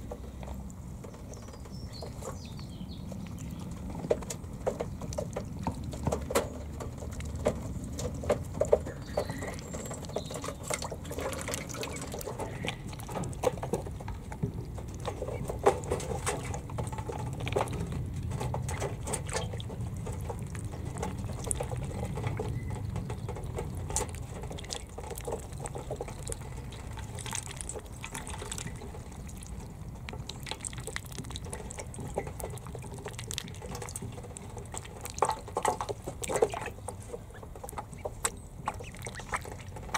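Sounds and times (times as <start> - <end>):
ducklings splashing in water: 0.0 - 39.9.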